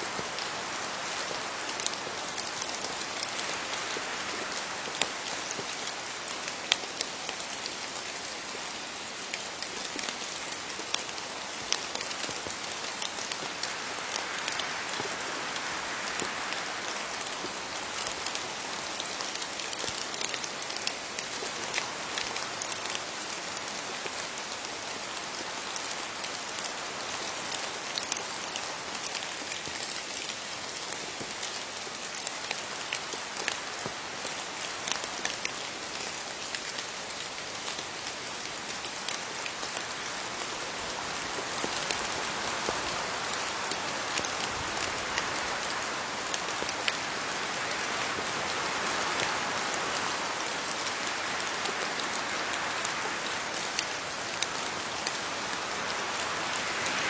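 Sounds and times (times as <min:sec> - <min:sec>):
rain pattering on leaves: 0:00.0 - 0:57.0.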